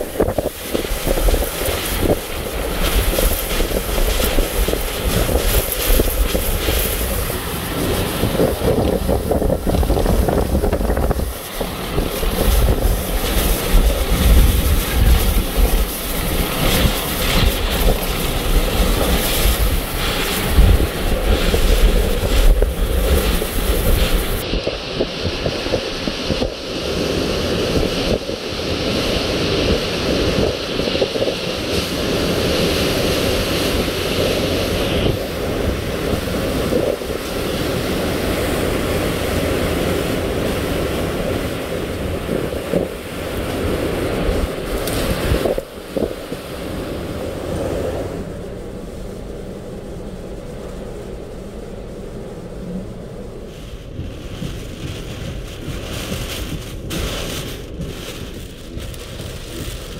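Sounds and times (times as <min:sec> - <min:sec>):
strong gusting wind: 0:00.0 - 0:59.9
wind-driven rain: 0:00.0 - 0:59.9.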